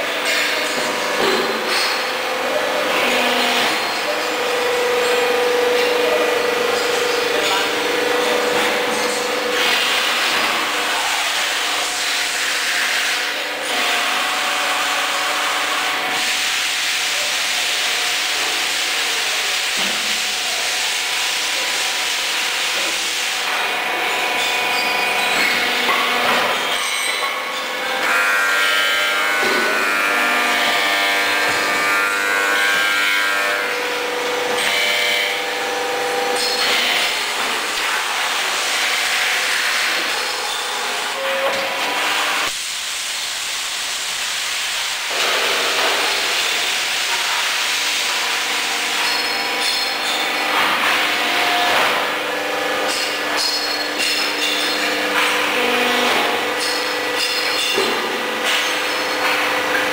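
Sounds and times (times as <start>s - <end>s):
hydraulic machine hiss and hum: 0.0s - 59.9s.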